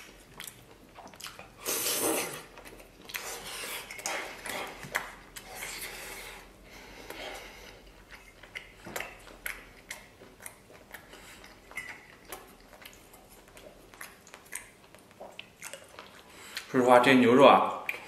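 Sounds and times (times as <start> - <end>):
chewing: 0.0 - 16.8.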